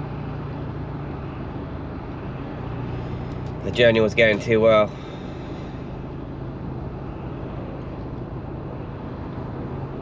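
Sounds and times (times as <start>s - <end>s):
engine hum: 0.0s - 10.0s
road noise: 0.0s - 10.0s.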